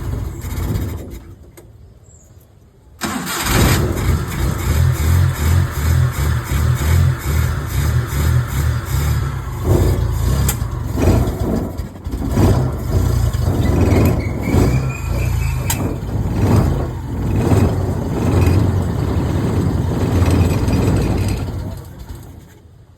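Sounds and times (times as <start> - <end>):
petrol engine running: 0.0 - 1.6, 3.0 - 22.7.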